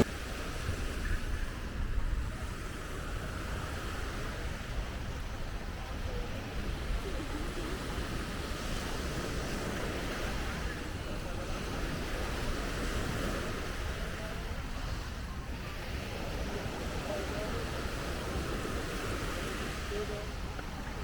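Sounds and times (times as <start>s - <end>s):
ocean surf washing onto beach: 0.0s - 21.0s
wind buffeting microphone: 0.0s - 21.0s.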